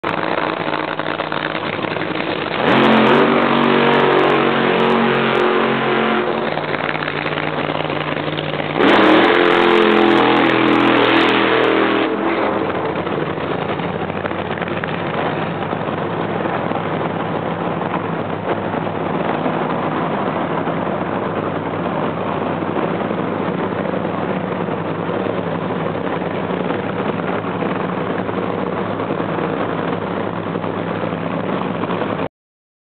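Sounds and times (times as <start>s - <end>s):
loud racing car engines: 0.0s - 32.3s.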